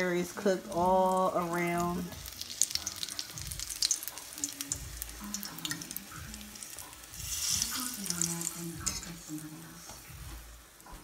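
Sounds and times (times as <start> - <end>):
roll sizzling in frying oil: 0.0 - 11.0.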